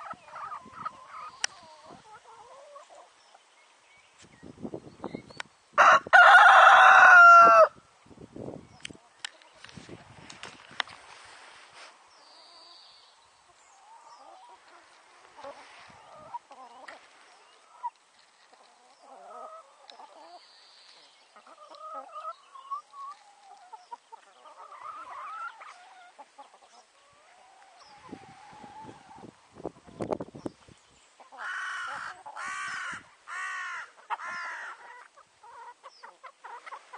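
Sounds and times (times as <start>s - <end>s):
chickens clucking: 0.0s - 3.5s, 8.8s - 36.9s.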